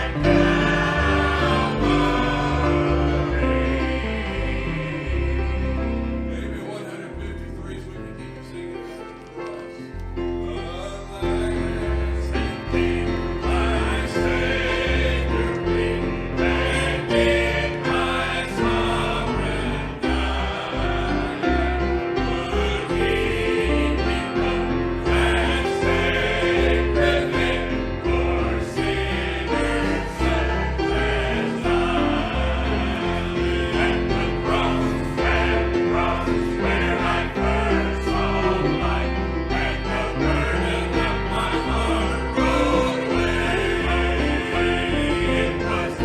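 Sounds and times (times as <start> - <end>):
choir singing a hymn: 0.0 - 46.0
instrumental accompaniment: 0.0 - 46.0.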